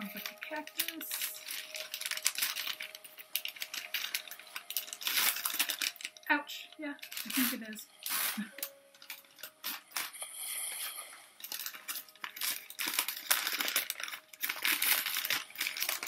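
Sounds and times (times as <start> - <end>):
newspaper rustling and crinkling: 0.0 - 6.2, 7.0 - 16.0.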